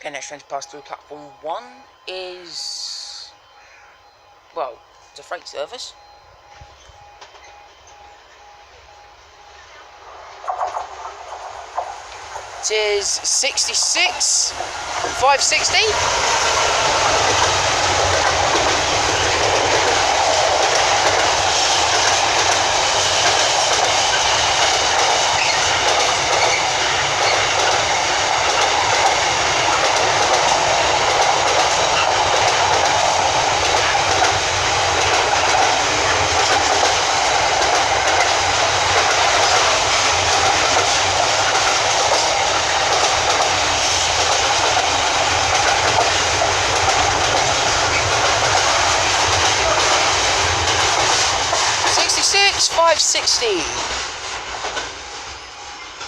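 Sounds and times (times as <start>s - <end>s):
train wheels rolling on rails: 4.1s - 56.0s.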